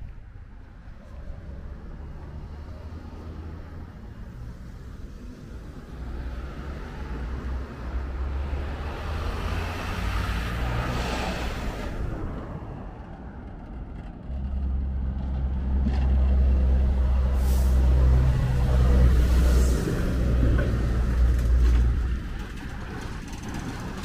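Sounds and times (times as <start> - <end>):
vehicle engine rumbling passing by: 0.0 - 24.0.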